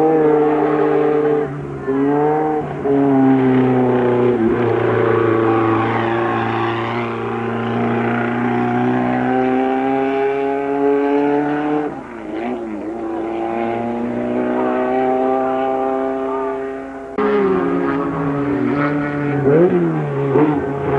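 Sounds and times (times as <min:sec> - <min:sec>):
racing car engine revving: 0:00.0 - 0:20.9.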